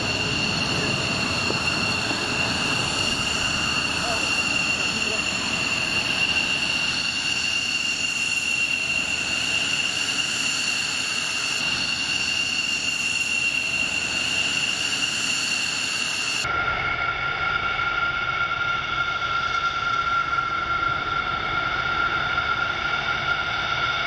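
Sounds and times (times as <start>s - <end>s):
jet engine whine and rush: 0.0s - 24.0s.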